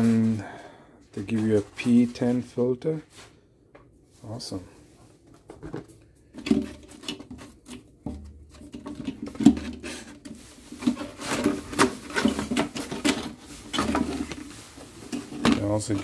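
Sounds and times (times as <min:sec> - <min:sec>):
cardboard and plastic rustling: 0:01.2 - 0:02.8, 0:04.2 - 0:16.0.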